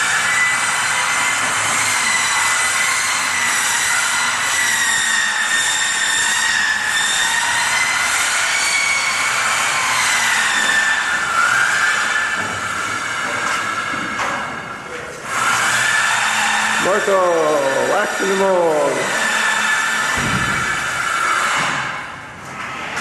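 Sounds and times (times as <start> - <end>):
machine high whine: 0.0 - 22.7.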